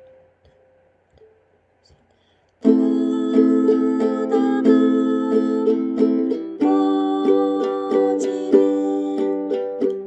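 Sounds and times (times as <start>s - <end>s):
ukulele strumming: 0.0s - 1.3s, 2.6s - 10.0s.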